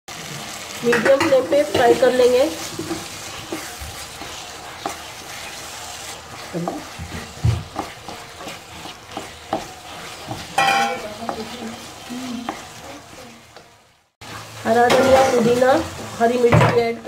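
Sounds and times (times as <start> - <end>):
meat sizzling in a pan: 0.1 - 17.0
spatula tapping and scraping pan: 0.8 - 12.9, 14.7 - 17.0.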